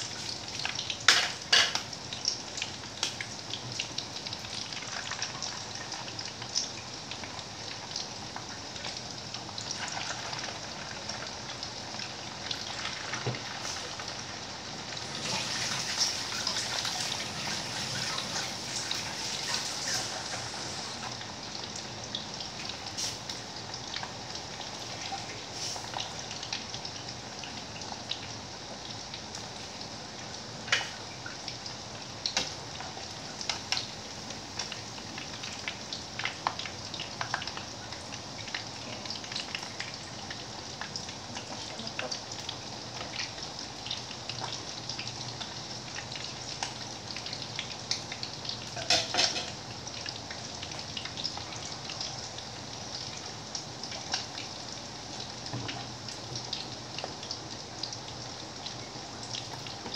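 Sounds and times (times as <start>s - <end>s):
patties sizzling in oil: 0.0s - 59.9s.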